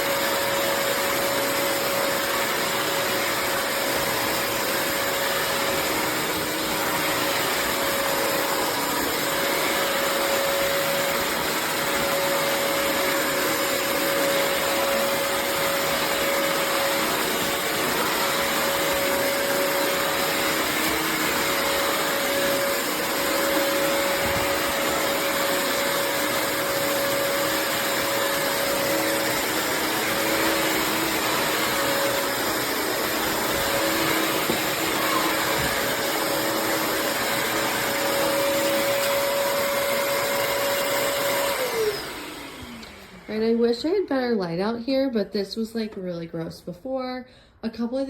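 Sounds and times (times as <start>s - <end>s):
wet-dry vacuum running: 0.0s - 44.1s.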